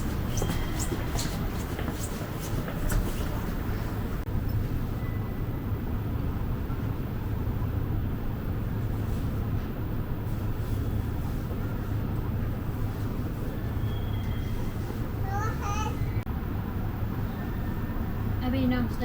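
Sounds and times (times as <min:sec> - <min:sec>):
low rumble of city traffic: 0:00.0 - 0:19.0.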